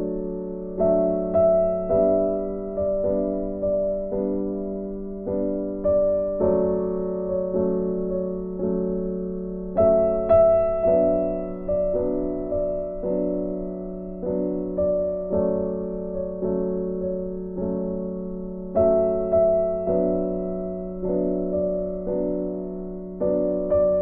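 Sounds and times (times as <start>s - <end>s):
gentle piano music: 0.0s - 24.0s.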